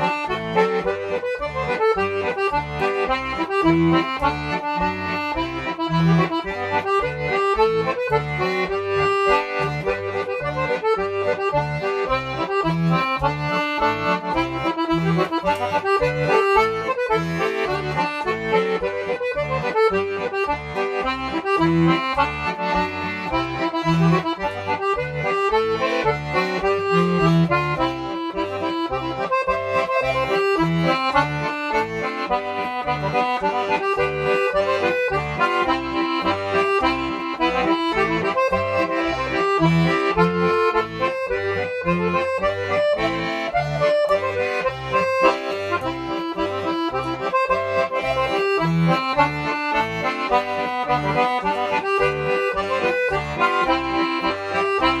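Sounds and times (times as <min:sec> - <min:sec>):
accordion playing a polka: 0:00.0 - 0:55.0.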